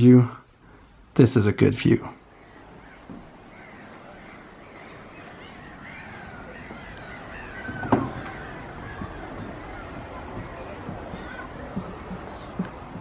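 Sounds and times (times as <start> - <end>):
bird call with falling pitch: 2.2 - 13.0.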